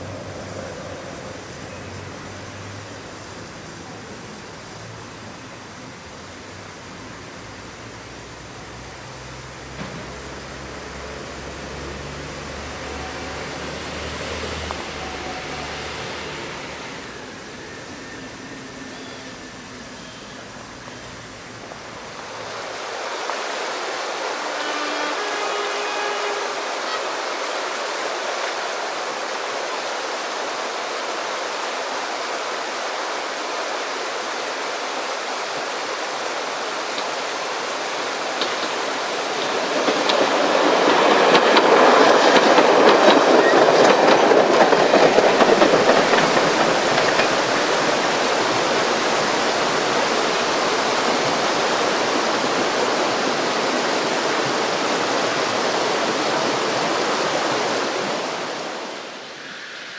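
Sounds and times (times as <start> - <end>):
diesel train passing: 0.0 - 59.9
steady rushing noise: 0.0 - 59.9.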